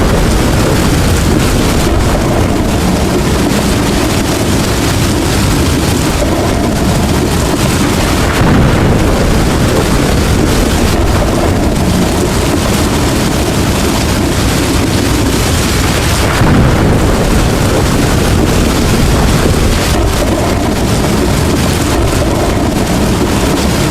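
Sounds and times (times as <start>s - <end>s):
heavy rain: 0.0s - 23.9s
low thunder rumble: 0.0s - 23.9s.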